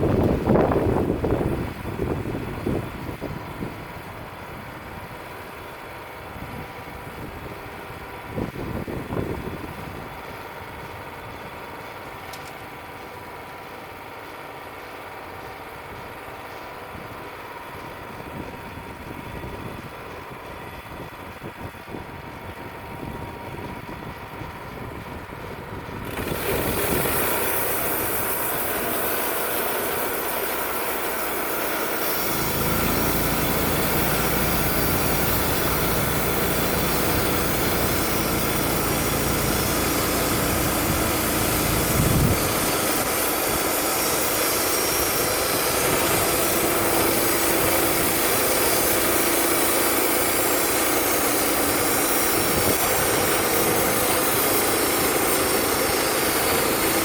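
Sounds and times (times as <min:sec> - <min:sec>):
sawmill engine idling: 0:00.0 - 0:57.0.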